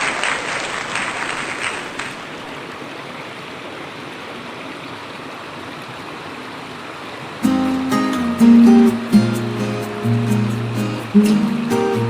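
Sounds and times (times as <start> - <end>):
waterfall water rushing: 1.9 - 12.0.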